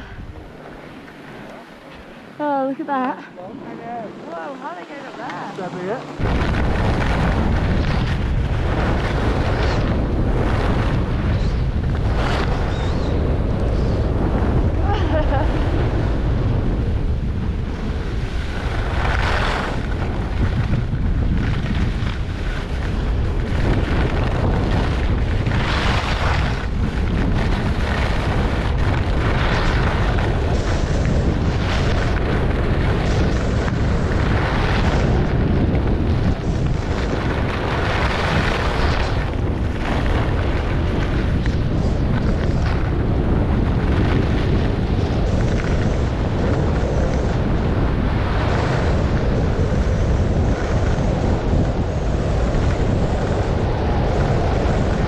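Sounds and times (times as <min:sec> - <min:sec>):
skis scraping over snow: 0:00.0 - 0:55.0
wind buffeting microphone: 0:00.0 - 0:55.0.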